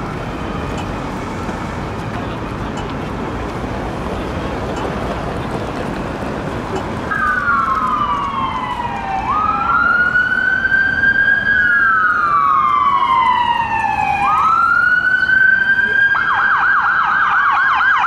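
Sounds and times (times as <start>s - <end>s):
city traffic noise: 0.0s - 18.0s
emergency vehicle siren wailing: 0.0s - 18.0s.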